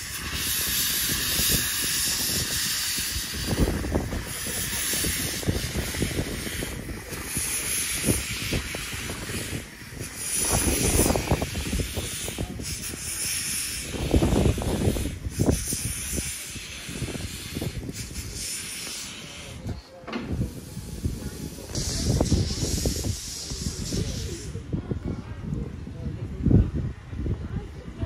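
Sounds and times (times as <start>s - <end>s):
steam locomotive chuffing: 0.0s - 19.7s, 20.4s - 24.6s
hiss of escaping steam: 0.0s - 24.7s.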